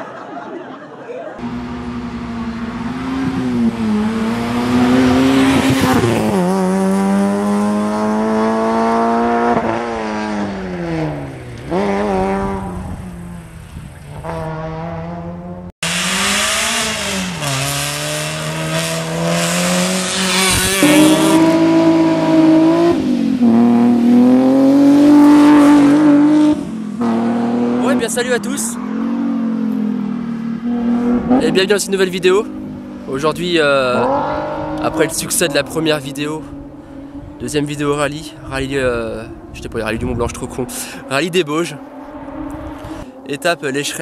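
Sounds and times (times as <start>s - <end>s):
rally car engines revving: 1.4s - 44.0s.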